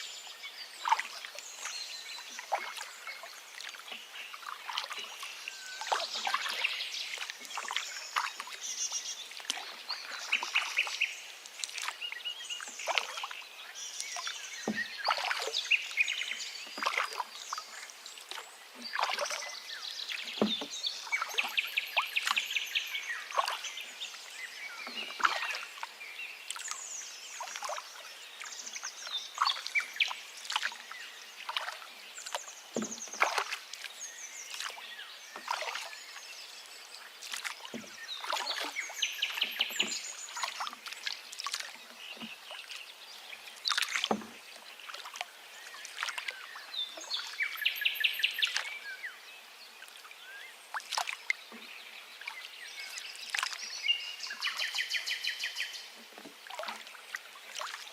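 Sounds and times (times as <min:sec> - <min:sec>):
forest birds singing: 0:00.0 - 0:57.9.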